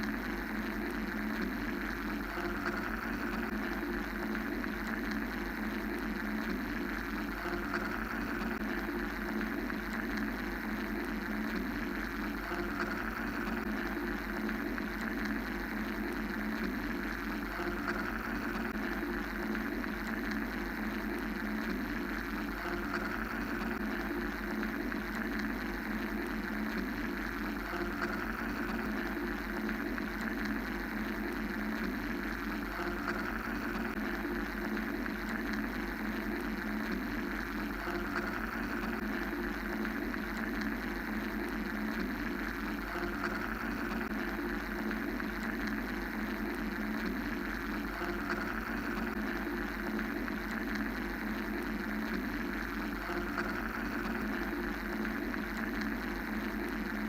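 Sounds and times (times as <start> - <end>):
mechanical white noise drone: 0.0 - 57.0.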